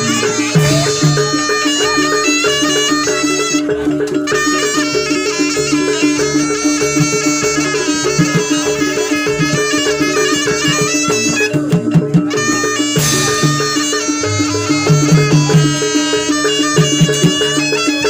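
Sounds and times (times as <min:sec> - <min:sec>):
shrill double-reed trumpet melody: 0:00.0 - 0:18.0.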